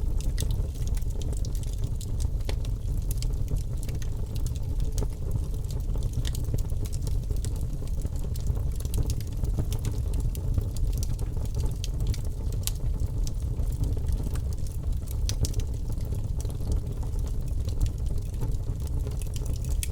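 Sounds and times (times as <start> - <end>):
low rumble of flames: 0.0 - 19.9
wood fire crackling and popping: 0.0 - 19.9.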